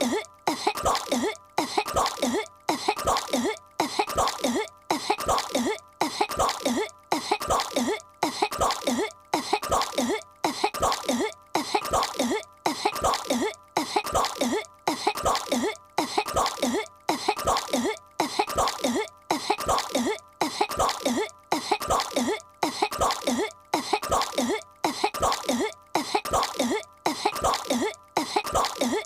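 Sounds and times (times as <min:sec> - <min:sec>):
cartoon girl coughing: 0:00.0 - 0:29.0.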